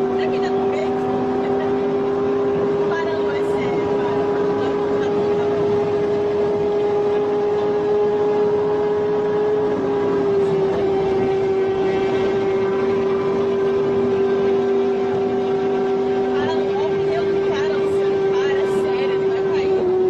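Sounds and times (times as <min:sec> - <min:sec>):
car engine drone: 0:00.0 - 0:20.0
wind and road noise: 0:00.0 - 0:20.0.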